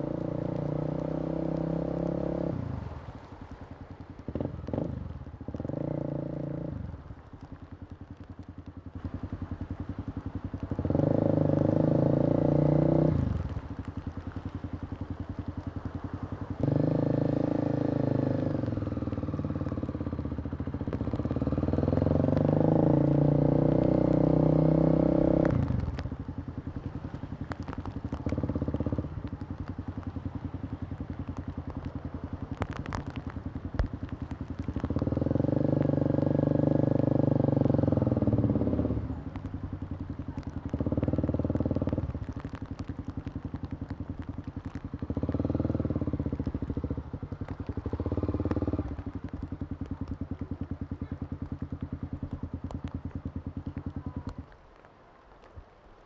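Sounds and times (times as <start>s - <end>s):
motorcycle engine revving: 0.0s - 3.2s, 3.9s - 7.0s, 8.5s - 54.4s.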